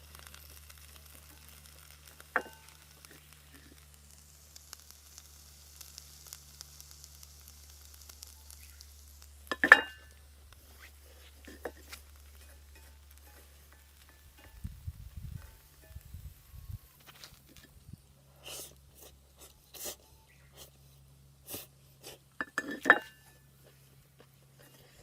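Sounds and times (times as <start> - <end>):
food sizzling in a skillet: 0.0 - 18.9, 21.5 - 23.8.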